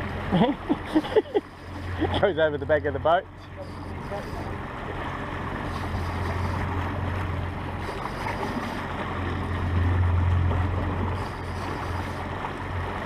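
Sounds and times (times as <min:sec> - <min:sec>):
outboard motor humming: 0:00.0 - 0:13.0
water rushing past hull: 0:00.0 - 0:13.0.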